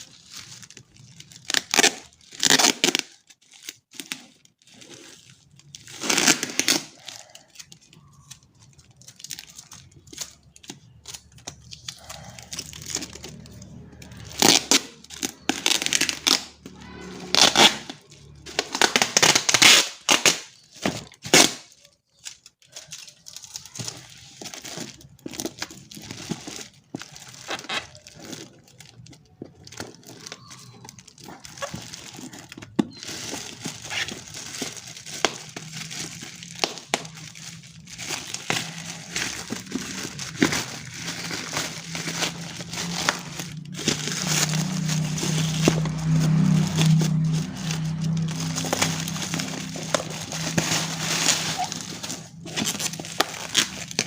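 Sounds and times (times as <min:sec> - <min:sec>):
plastic and cardboard crinkling: 0:00.0 - 0:54.0.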